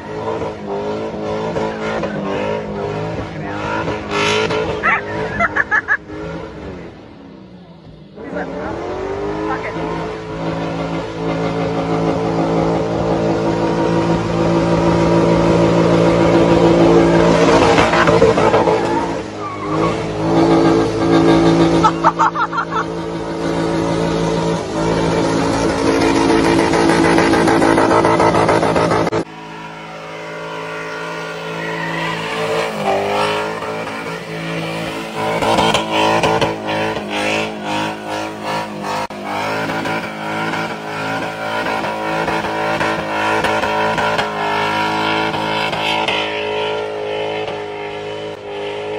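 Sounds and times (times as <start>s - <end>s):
car engine revving: 0.0s - 48.9s
tyres spinning on asphalt: 0.0s - 48.9s.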